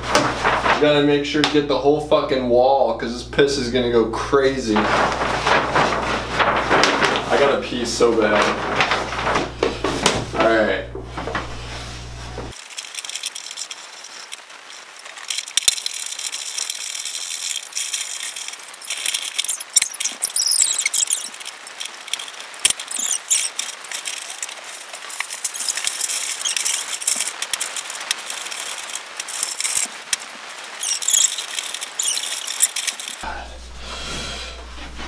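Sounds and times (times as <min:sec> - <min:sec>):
paper crinkling and tearing: 0:00.0 - 0:01.0, 0:04.3 - 0:33.3.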